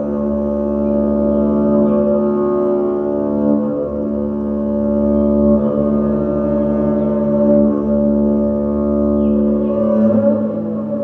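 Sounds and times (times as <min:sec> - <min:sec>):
double bass drone: 0:00.0 - 0:11.0.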